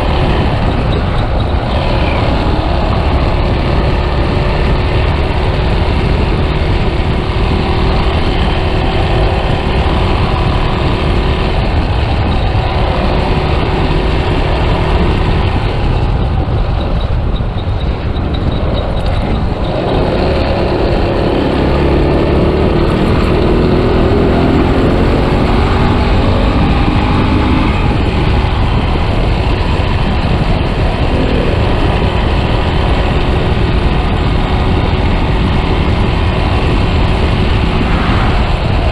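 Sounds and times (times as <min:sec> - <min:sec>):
motorcycle engine running: 0:00.0 - 0:38.9
wind rumbling on microphone: 0:00.0 - 0:38.9.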